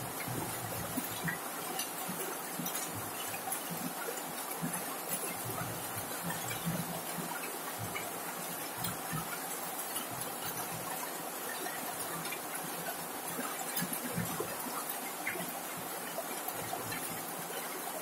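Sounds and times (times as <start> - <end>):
heavy rain on a metal roof: 0.0 - 18.0.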